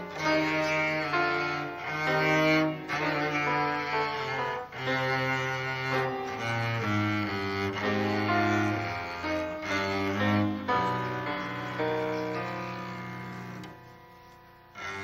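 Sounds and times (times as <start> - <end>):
cello playing slow notes: 0.0 - 15.0.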